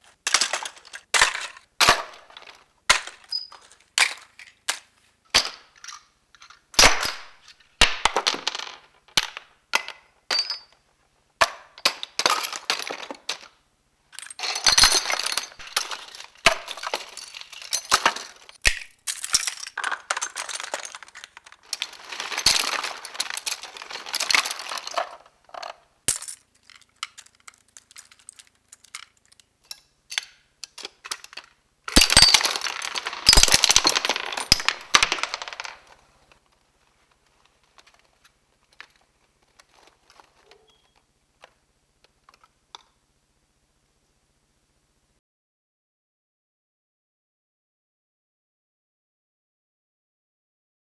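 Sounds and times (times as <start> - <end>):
small objects clattering onto toys: 0.0 - 10.8, 11.6 - 43.0.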